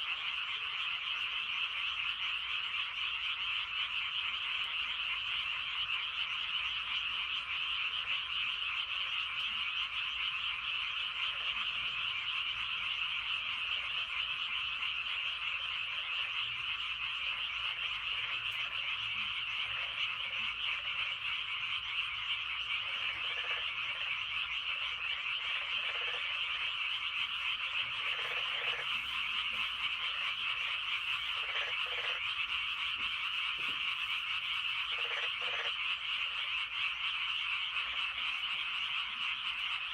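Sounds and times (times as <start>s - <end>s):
chorus of frogs calling: 0.0s - 39.9s
lower frog calls: 0.0s - 39.9s.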